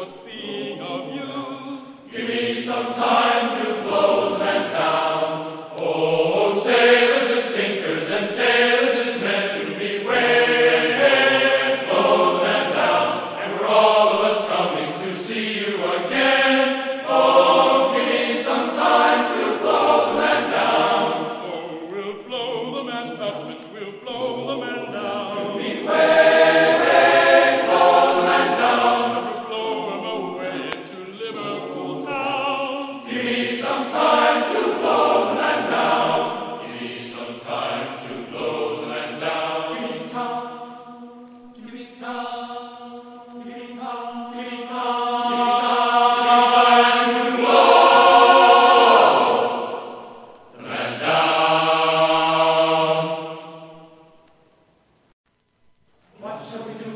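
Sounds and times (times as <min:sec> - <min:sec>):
choir singing a sea shanty: 0:00.0 - 0:54.4, 0:56.1 - 0:56.9.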